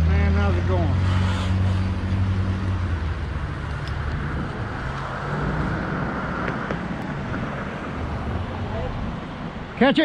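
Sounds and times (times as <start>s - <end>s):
vehicle engine humming: 0.0s - 9.8s
road traffic: 0.0s - 10.0s.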